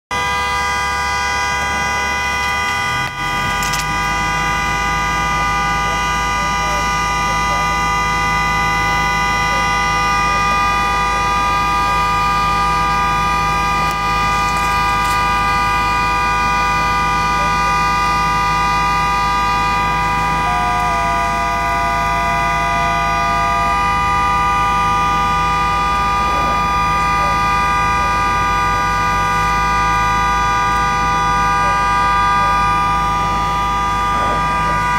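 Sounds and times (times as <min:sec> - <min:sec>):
low engine rumble: 0:00.1 - 0:34.9
vehicle horn steady chord: 0:00.1 - 0:34.9.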